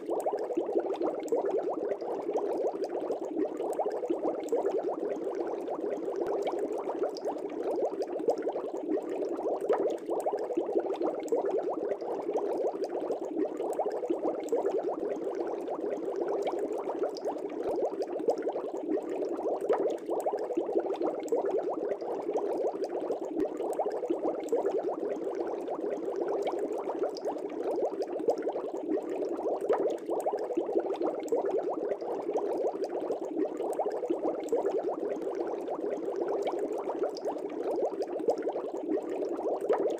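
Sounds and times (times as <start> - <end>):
fish tank air bubbling: 0.0 - 39.9.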